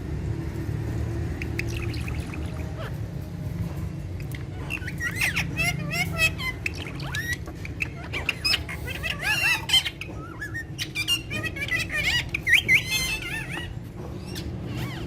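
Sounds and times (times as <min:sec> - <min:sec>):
parrots squawking and whistling: 0:00.6 - 0:15.0.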